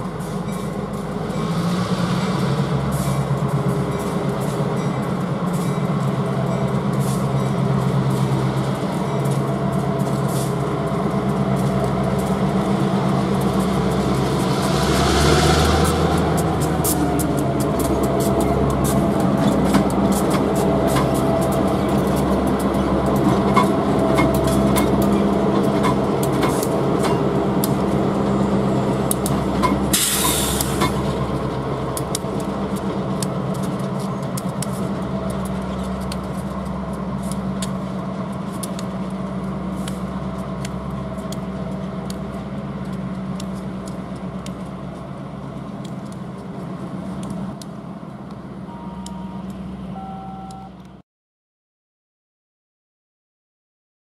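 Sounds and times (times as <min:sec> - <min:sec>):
wheels clicking on rail: 0:00.0 - 0:49.7
diesel locomotive engines drumming: 0:00.0 - 0:51.0.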